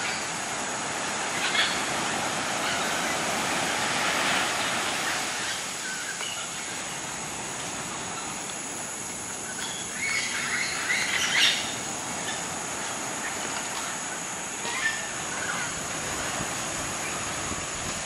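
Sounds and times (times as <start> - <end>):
rushing surf: 0.0 - 18.0.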